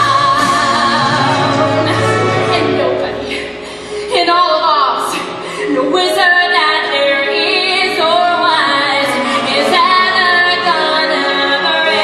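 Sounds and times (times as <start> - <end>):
orchestral backing: 0.0 - 12.0.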